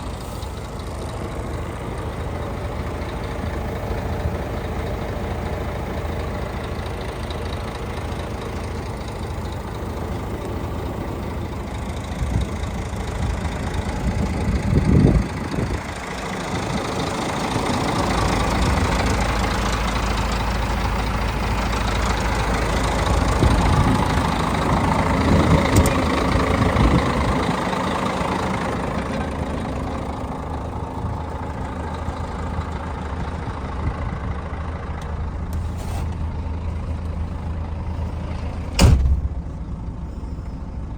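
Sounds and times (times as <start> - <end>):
diesel truck engine idling and revving: 0.0 - 40.9.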